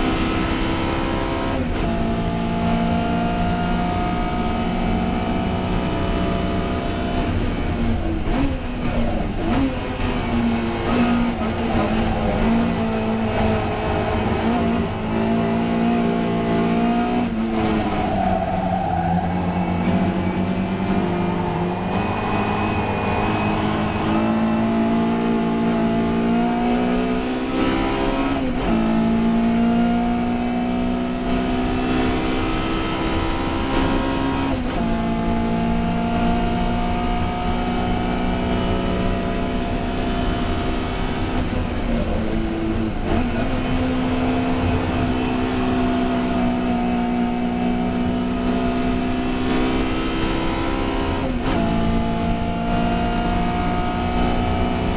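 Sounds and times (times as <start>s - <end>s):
race car engine at high revs: 0.0s - 54.9s.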